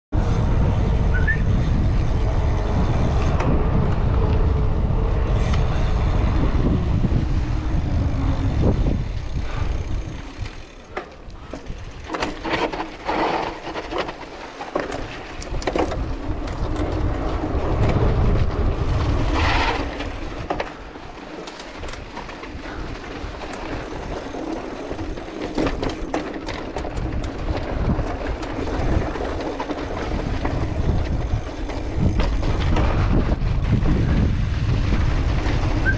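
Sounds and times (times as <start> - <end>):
wind rushing over microphone: 0.1 - 13.9, 15.0 - 21.2, 21.8 - 35.9
tyres rumbling on paved road: 0.1 - 35.9
bike rattling over stony ground: 0.2 - 35.9.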